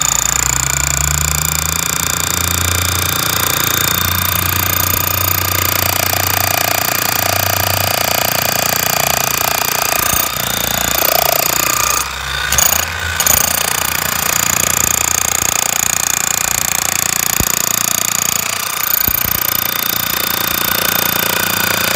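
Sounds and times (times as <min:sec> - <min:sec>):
demolition hammer hammering soil: 0:01.8 - 0:21.9.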